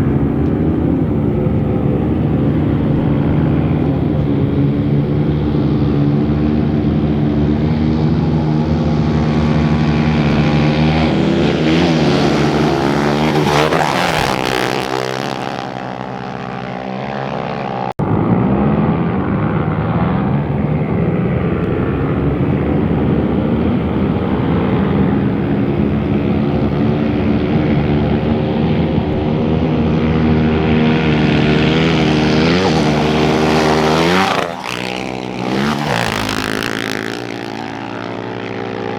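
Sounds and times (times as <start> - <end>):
motorcycles passing at speed: 0.0 - 38.9
steady engine drone: 0.0 - 38.9.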